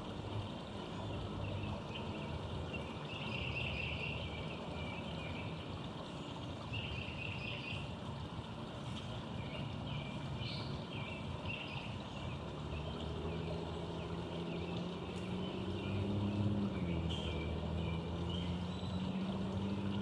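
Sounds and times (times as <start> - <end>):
road traffic rumble: 0.0 - 20.0
small songbirds chirping: 0.5 - 8.2, 8.8 - 20.0.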